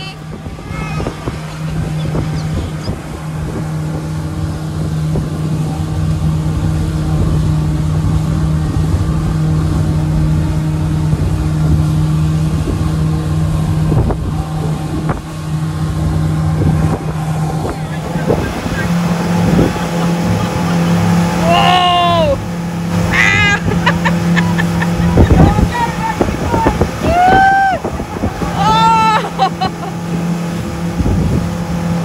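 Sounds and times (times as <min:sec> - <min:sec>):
wind noise on microphone: 0:00.0 - 0:20.5, 0:24.8 - 0:32.0
motorboat engine running: 0:00.0 - 0:32.0.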